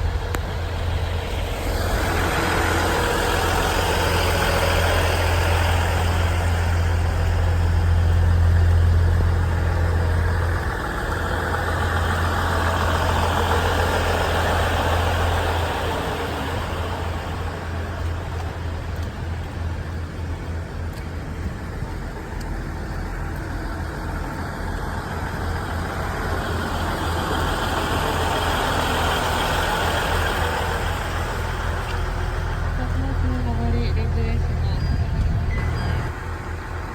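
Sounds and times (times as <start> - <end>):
railcar diesel engines running: 0.0 - 36.9.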